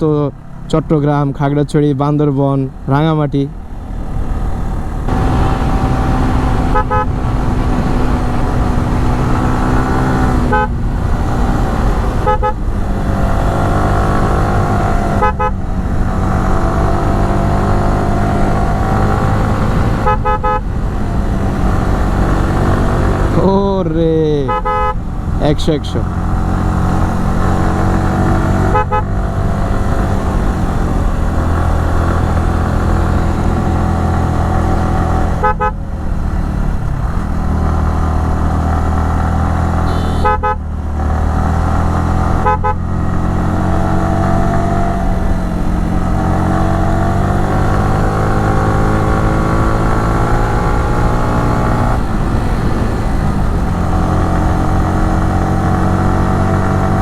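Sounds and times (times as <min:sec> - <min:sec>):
motorcycle engine revving: 0:02.7 - 0:57.0.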